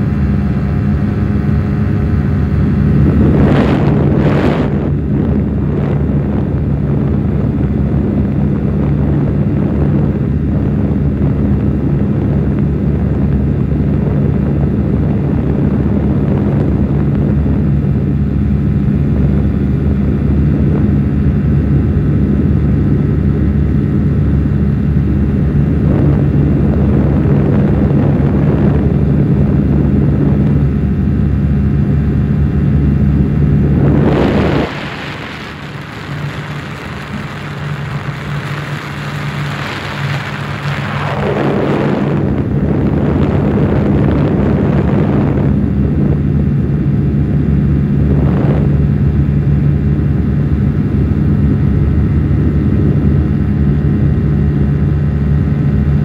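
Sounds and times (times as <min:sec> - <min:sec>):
aircraft engine droning: 0:00.0 - 0:56.0.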